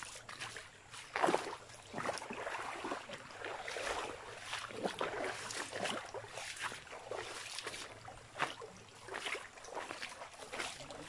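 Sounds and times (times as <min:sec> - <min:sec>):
footsteps splashing through stream: 0:00.0 - 0:11.0.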